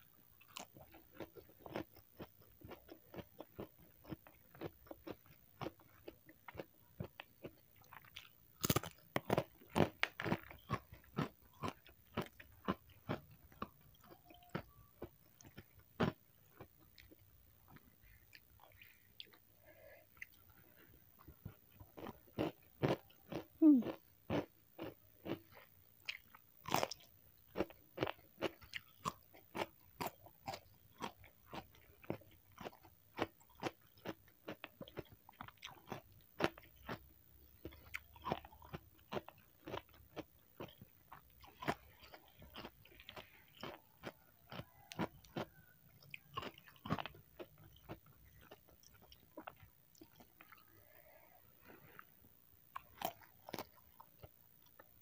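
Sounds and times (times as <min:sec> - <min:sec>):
wet chewing and crunching: 0:00.1 - 0:52.1, 0:52.7 - 0:55.0.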